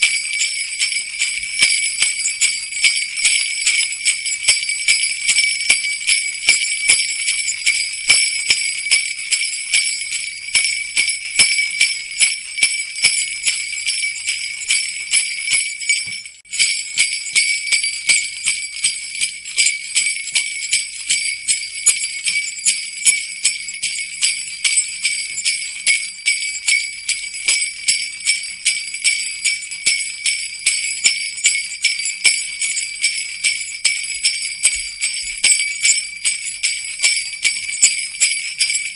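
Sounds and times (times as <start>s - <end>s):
jingle bells shaken: 0.0s - 38.9s.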